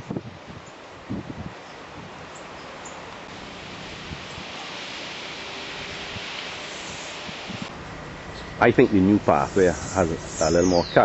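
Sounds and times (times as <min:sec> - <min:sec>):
wind buffeting microphone: 0:00.0 - 0:02.5, 0:03.1 - 0:11.0
wind blowing: 0:00.0 - 0:11.0.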